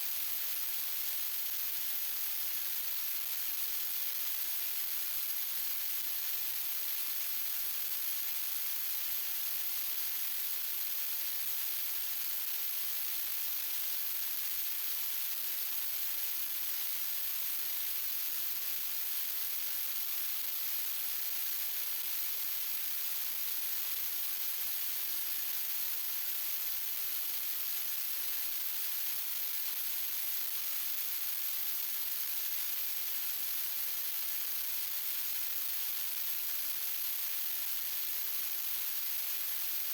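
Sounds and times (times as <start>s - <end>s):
steady static hiss: 0.0s - 39.9s.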